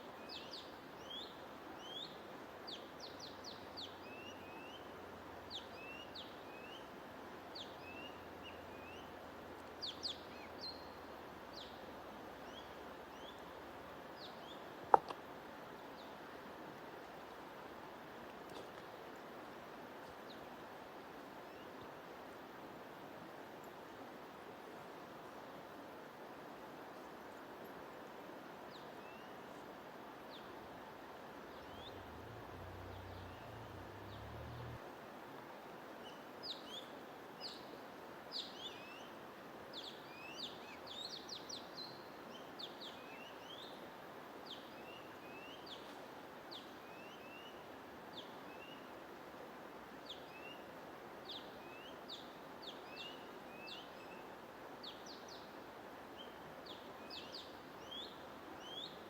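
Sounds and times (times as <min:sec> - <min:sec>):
white noise hiss: 0:00.0 - 0:59.0
songbirds chirping: 0:00.2 - 0:20.7, 0:28.7 - 0:34.8, 0:36.0 - 0:49.1, 0:49.9 - 0:59.0.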